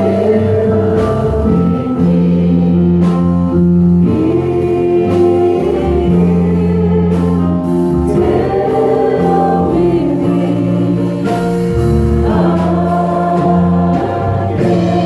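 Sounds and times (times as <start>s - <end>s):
gospel voices singing: 0.0s - 15.0s
instrumental backing: 0.0s - 15.0s.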